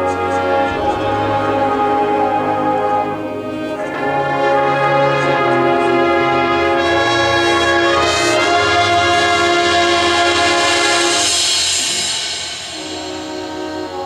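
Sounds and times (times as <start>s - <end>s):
brass section playing chords: 0.0s - 14.0s
cymbals: 0.0s - 14.0s.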